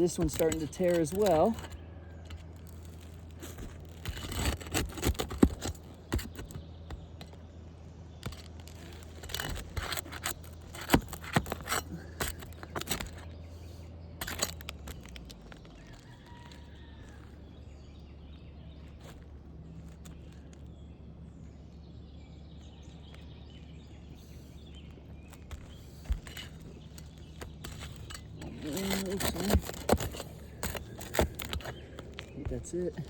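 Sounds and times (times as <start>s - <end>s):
shingle crackling and scraping: 0.0s - 33.0s.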